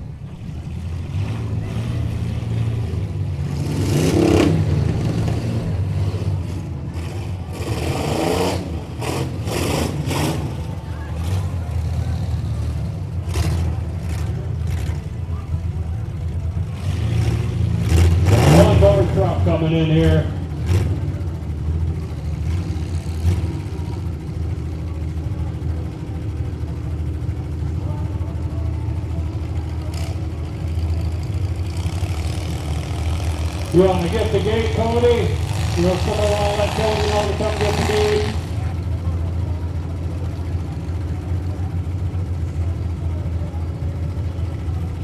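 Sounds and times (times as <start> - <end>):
truck engines rumbling: 0.0 - 45.0.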